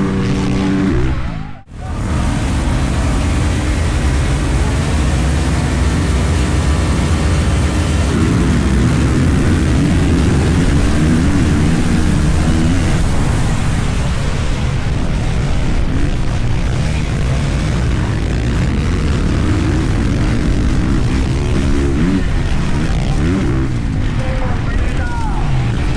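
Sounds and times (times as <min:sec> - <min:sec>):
dirt bike engine running: 0:00.0 - 0:25.9
steady rushing noise: 0:00.0 - 0:25.9.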